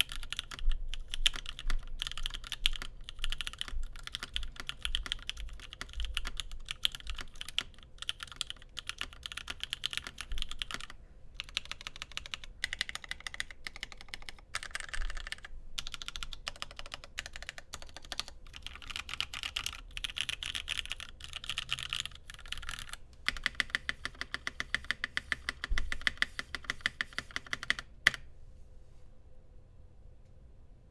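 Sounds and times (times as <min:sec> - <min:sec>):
typing on mechanical keyboard: 0:00.0 - 0:28.2.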